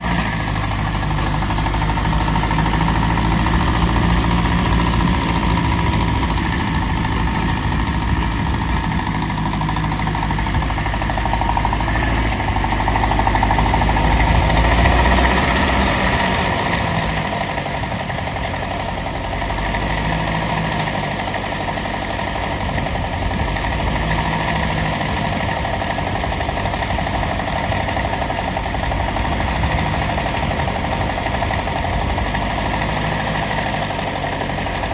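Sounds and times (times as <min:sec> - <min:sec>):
tractor engine rumbling: 0:00.0 - 0:34.9.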